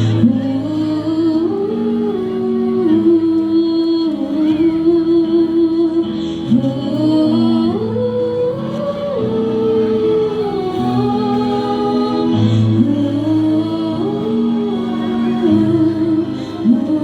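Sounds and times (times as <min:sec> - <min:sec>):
choir of young voices singing: 0:00.0 - 0:17.0.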